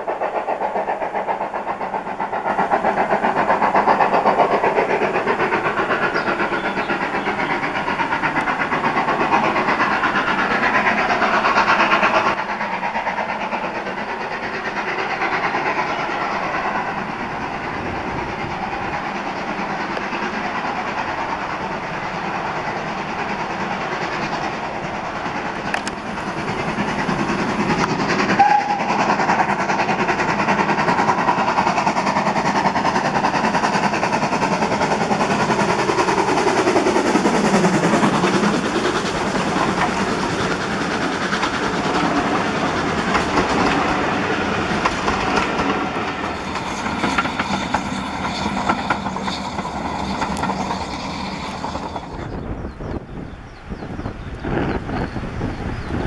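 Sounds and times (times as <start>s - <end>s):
steam locomotive chuffing: 0.0s - 56.0s.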